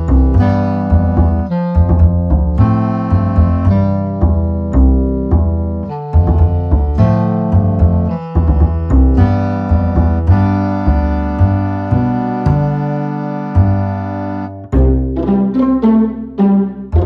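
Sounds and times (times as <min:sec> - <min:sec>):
keyboard chords with bass line: 0:00.0 - 0:17.0.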